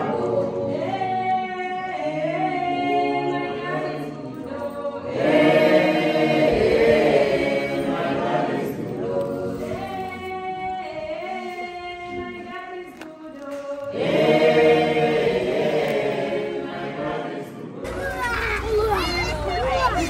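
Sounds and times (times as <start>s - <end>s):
choir singing a cappella: 0.0s - 18.3s.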